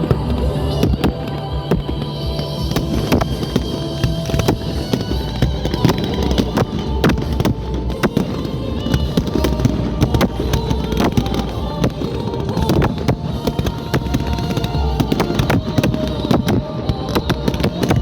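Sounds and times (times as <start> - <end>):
fireworks bangs and crackles: 0.0 - 18.0
music over loudspeakers: 0.0 - 18.0.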